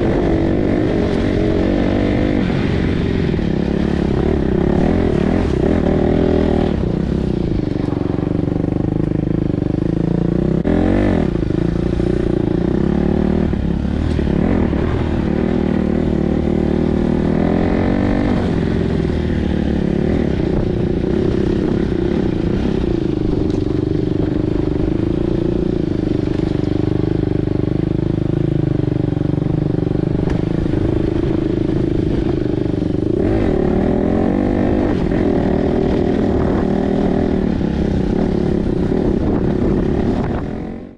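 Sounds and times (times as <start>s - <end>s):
dirt bike engine: 0.0s - 40.9s.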